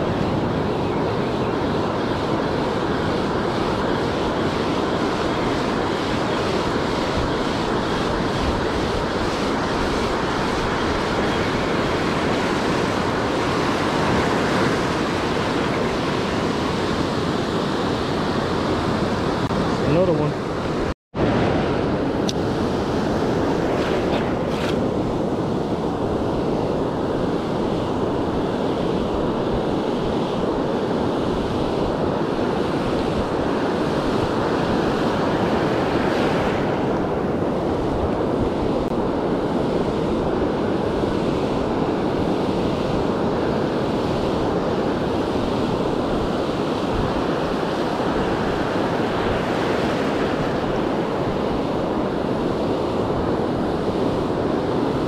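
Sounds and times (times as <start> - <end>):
ocean surf breaking on sand: 0.0 - 55.0
wind buffeting microphone: 0.0 - 55.0.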